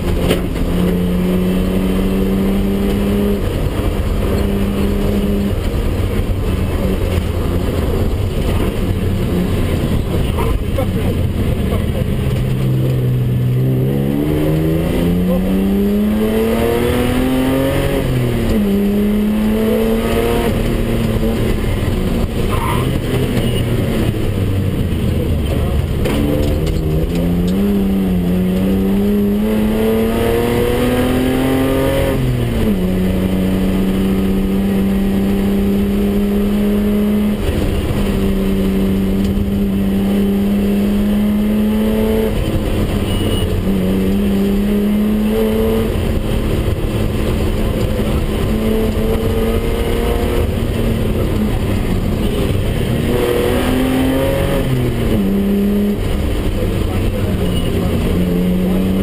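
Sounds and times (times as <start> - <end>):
car engine pulling hard: 0.0 - 59.0
road and wind noise: 0.0 - 59.0.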